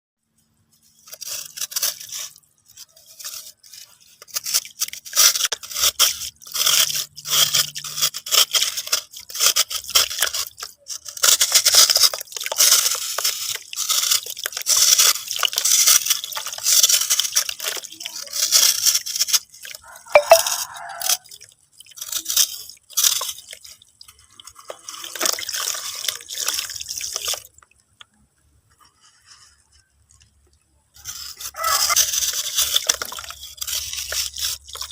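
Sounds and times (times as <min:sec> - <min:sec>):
brittle material crackling and crunching: 0:00.6 - 0:28.2, 0:28.8 - 0:34.9.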